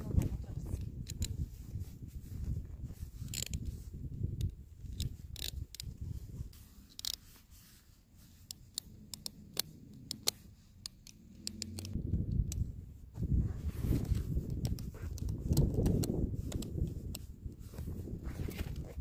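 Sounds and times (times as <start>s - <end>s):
buckles clicking and scraping: 0.1s - 12.7s, 13.9s - 19.0s.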